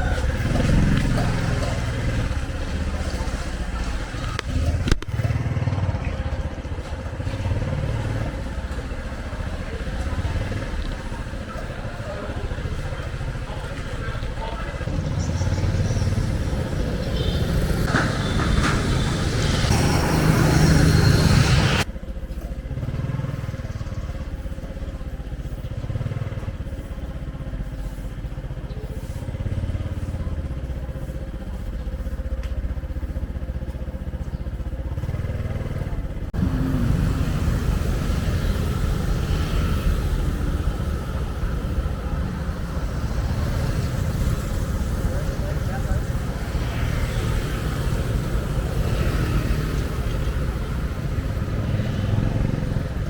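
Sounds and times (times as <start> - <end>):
traffic engines rumbling: 0.0 - 53.0.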